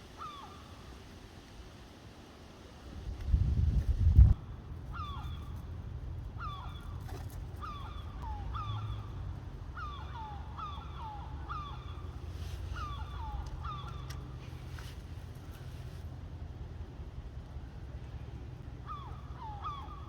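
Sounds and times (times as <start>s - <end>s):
low background rumble: 2.9s - 20.0s.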